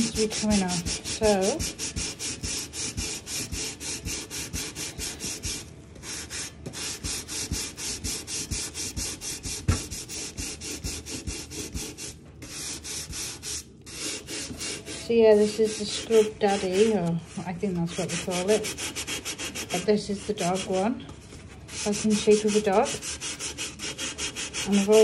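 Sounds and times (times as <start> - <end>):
sponge scrubbing with gritty paste: 0.0 - 25.0.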